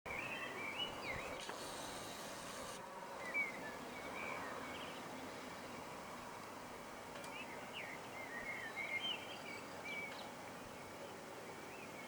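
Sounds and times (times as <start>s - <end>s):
faint background noise: 0.1s - 12.0s
songbirds chirping and warbling: 0.1s - 12.0s.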